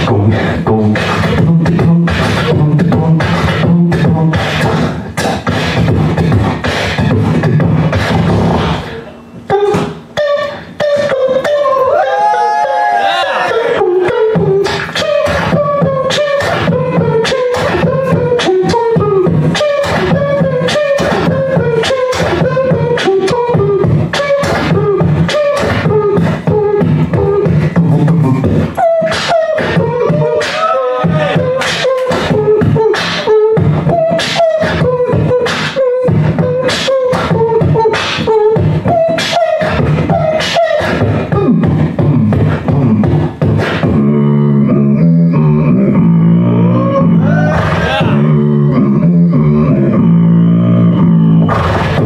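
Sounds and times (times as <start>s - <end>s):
hummed melody: 0.0s - 12.2s, 13.5s - 52.0s
beatboxing drum hits: 0.0s - 12.3s, 13.5s - 52.0s.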